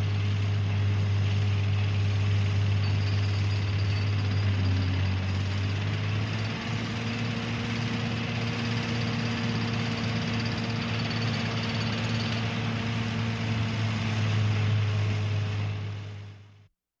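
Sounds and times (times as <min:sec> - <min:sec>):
heavy machine engine running: 0:00.0 - 0:16.6
wide noisy rumble: 0:00.0 - 0:16.7.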